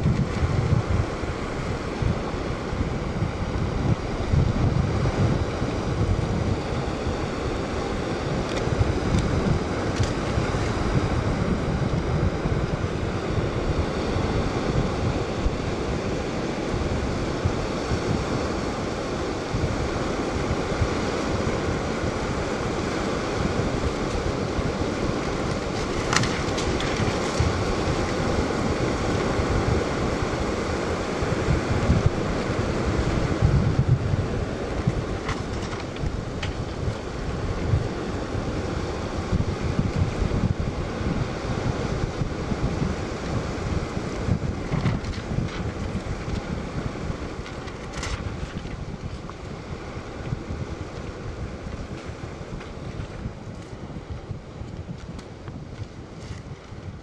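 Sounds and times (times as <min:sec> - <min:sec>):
small waves washing onto shore: 0:00.0 - 0:57.0
wind buffeting microphone: 0:00.0 - 0:57.0.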